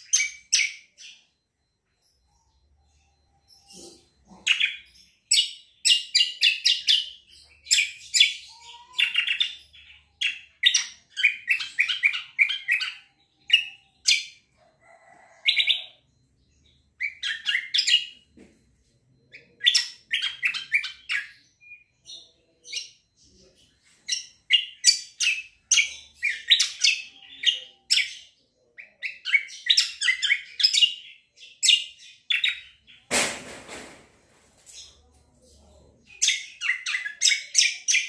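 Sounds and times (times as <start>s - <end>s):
songbird chirping: 0.0s - 33.1s.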